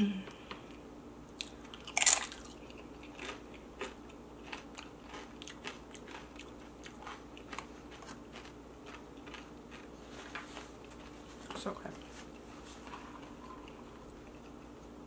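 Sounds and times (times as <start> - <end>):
person chewing crunchy chips: 1.4 - 15.0.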